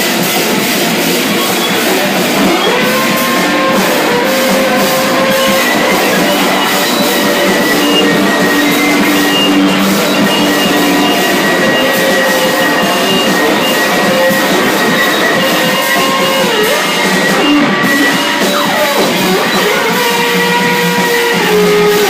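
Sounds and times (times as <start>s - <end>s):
drum kit with crashing cymbals: 0.0s - 22.0s
loud distorted noise: 0.0s - 22.0s
held ringing pitches: 1.3s - 21.4s.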